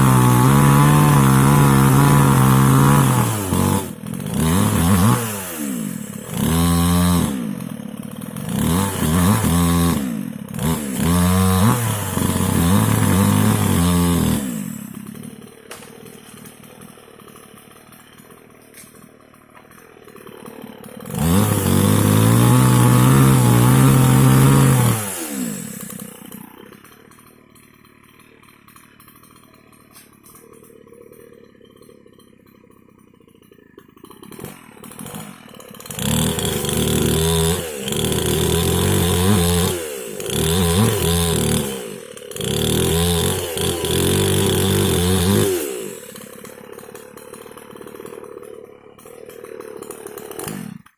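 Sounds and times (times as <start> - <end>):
small chainsaw engine revving: 0.0 - 50.9.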